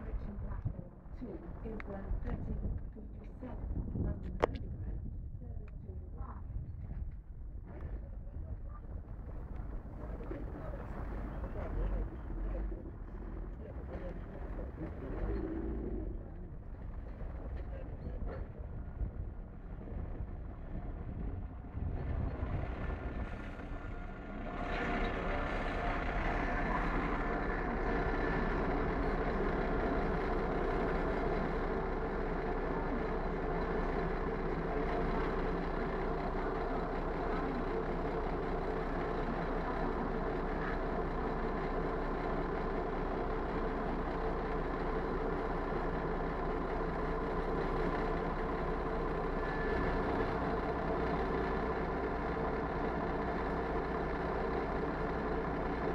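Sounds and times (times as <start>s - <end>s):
diesel train engines idling: 8.9s - 55.9s.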